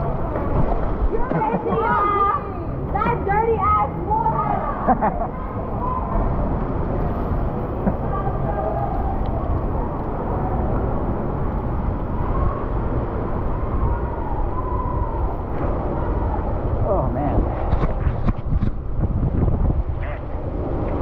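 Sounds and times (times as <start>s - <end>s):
wind rumble on microphone: 0.0s - 1.8s, 2.4s - 21.0s
bicycle tyres on wet pavement: 0.0s - 21.0s.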